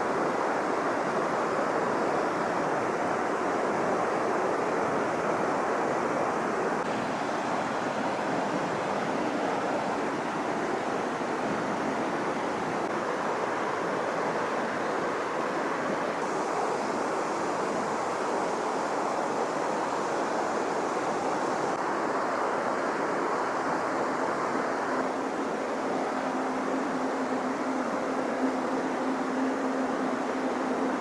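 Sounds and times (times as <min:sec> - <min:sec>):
river current rushing: 0:00.0 - 0:31.0.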